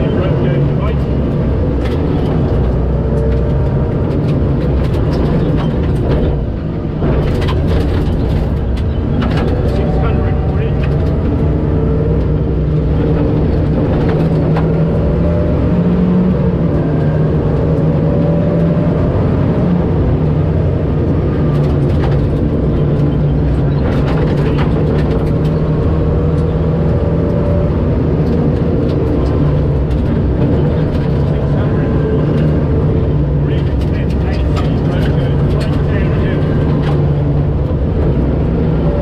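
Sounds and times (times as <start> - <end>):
car engine running: 0.0 - 39.0
tyres rumbling on dirt: 0.0 - 39.0.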